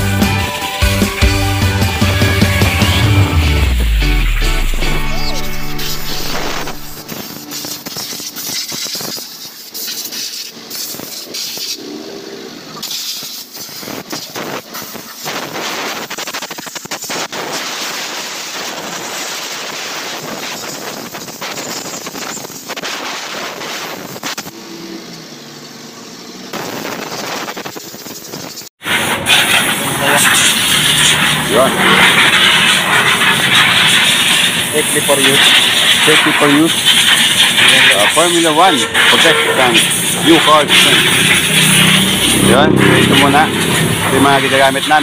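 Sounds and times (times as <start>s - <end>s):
hose spraying water: 0.0s - 25.0s, 26.1s - 45.0s.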